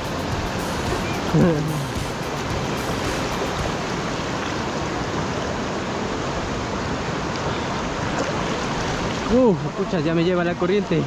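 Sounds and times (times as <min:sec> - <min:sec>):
river current rushing: 0:00.0 - 0:11.0.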